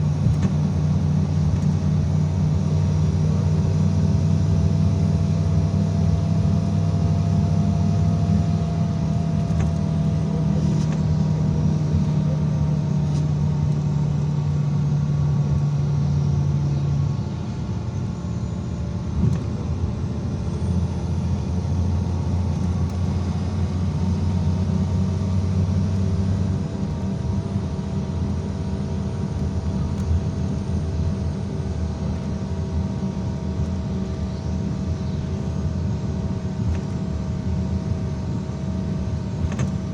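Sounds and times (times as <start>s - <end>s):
bus engine drone: 0.0s - 39.9s
faint whine: 0.0s - 39.9s
road noise: 0.0s - 39.9s.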